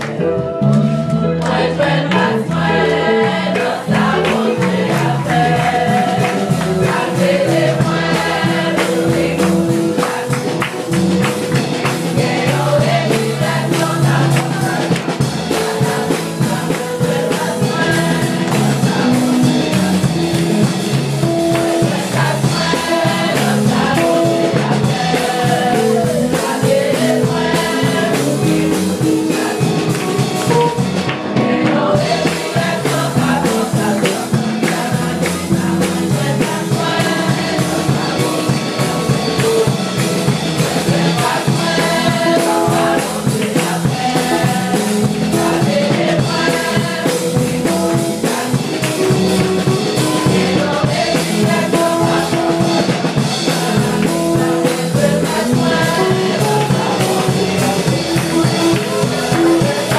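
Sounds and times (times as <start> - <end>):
band with drum kit: 0.0 - 59.9
gospel singing: 0.0 - 59.9.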